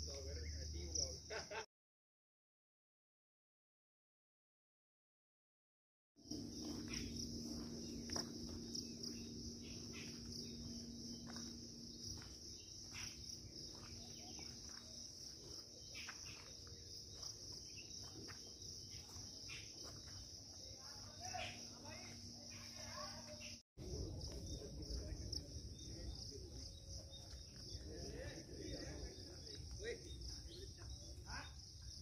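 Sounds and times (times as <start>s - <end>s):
insects droning: 0.0s - 1.7s, 6.2s - 32.0s.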